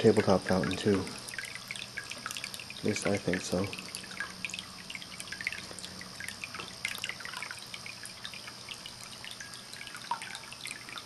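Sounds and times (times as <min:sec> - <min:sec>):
small drips and splashes: 0:00.0 - 0:11.0
water trickling into basin: 0:00.0 - 0:11.0.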